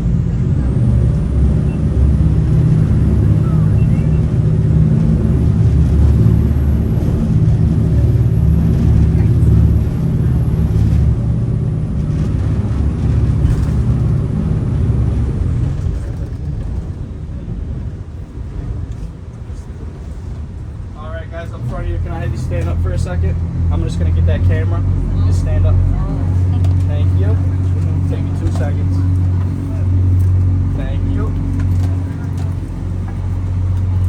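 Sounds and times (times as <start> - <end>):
boat diesel engines droning: 0.0 - 34.0.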